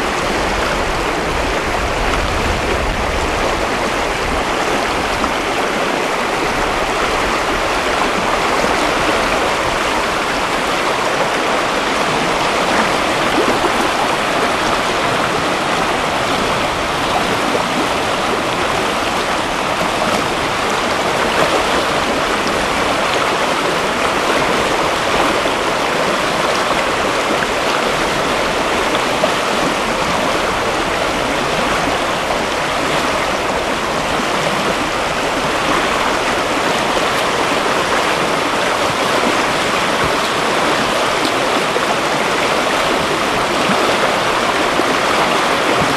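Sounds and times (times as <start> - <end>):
river rapids rushing: 0.0 - 45.9.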